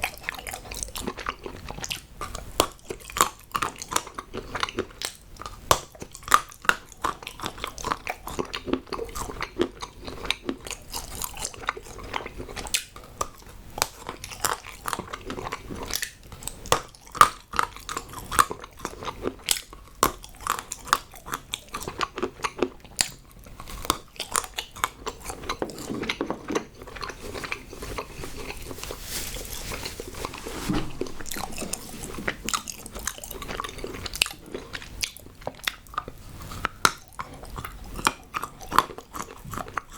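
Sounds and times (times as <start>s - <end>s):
chewing hard chocolate crunches: 0.0s - 30.4s, 31.0s - 39.9s.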